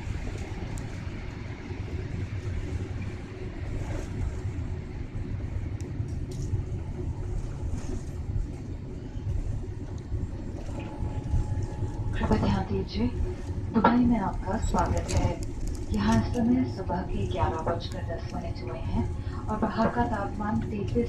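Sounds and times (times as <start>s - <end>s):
airliner engines rumbling: 0.0s - 21.0s.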